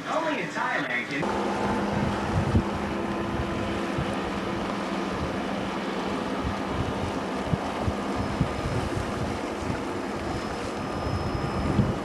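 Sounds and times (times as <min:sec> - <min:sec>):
low motor hum: 0:01.2 - 0:12.0
wind on microphone: 0:01.2 - 0:12.0.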